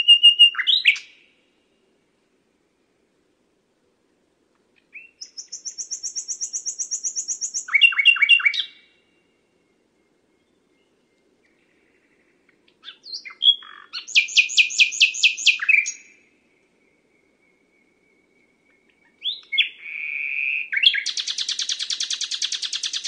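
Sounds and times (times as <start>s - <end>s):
nightingale singing: 0.0s - 2.0s, 4.7s - 23.0s.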